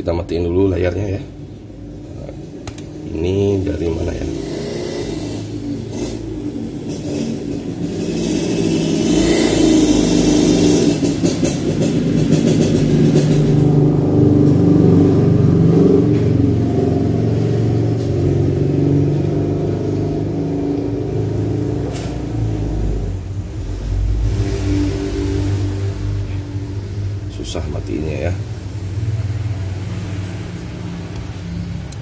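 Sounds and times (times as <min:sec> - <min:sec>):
vehicle engine revving: 0:03.0 - 0:32.0.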